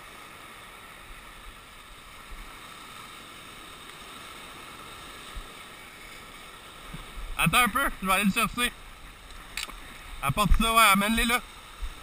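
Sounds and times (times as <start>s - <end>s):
surf breaking over rocks: 1.4s - 12.0s.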